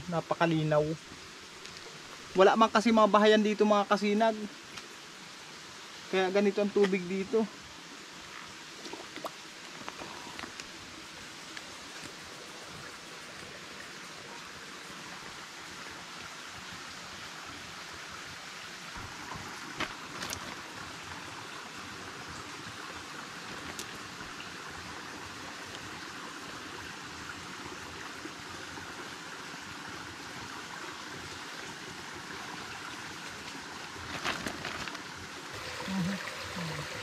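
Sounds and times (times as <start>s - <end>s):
creek trickling over rocks: 0.0s - 37.0s.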